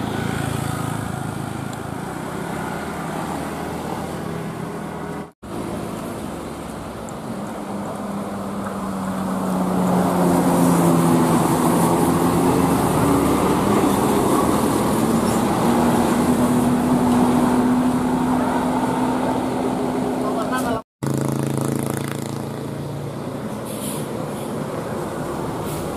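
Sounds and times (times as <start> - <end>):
bus engine drone: 0.0 - 25.9
road noise: 0.0 - 25.9.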